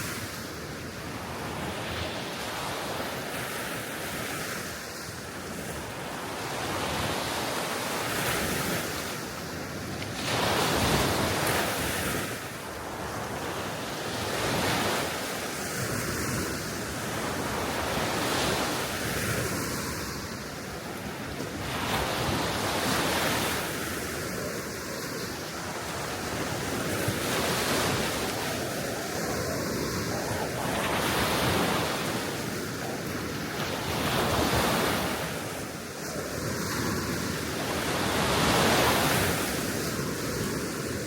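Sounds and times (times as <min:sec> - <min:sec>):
waves washing ashore: 0:00.0 - 0:41.0
wind blowing across microphone: 0:00.0 - 0:41.0.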